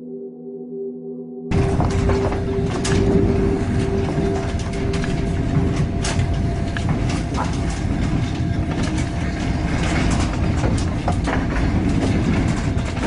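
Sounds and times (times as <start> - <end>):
clicks and knocks: 1.5 - 13.0
train wheels rumbling on rails: 1.5 - 13.0.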